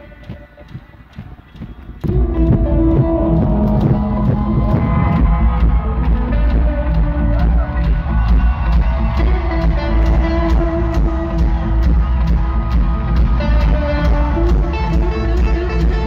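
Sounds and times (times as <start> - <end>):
live rock band playing: 0.0 - 16.0
drum beat: 0.2 - 16.0
electric guitar notes: 2.0 - 16.0.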